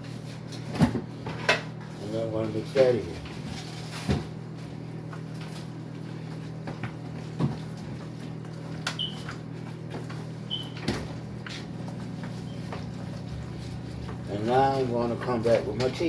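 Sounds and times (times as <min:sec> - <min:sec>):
steady low hum: 0:00.9 - 0:16.0.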